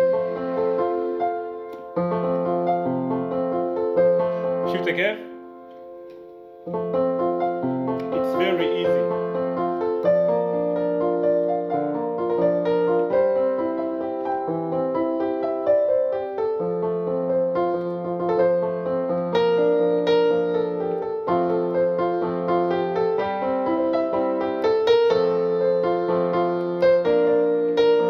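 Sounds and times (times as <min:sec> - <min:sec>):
electronic keyboard piano playing: 0:00.0 - 0:28.0.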